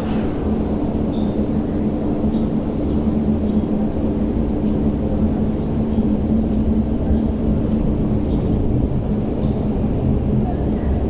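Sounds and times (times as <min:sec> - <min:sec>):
metro train low rumble: 0:00.0 - 0:11.0
steady hum tones: 0:00.0 - 0:11.0.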